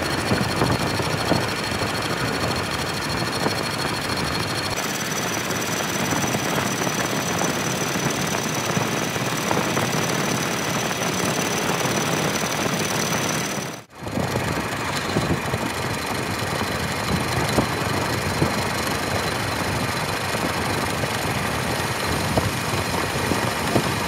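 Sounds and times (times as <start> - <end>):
metal lathe machining: 0.0 - 24.0.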